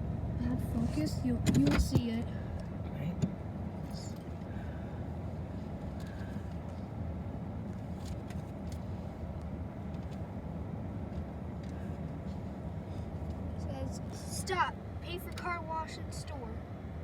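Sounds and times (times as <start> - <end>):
car idling rumble: 0.0 - 17.0.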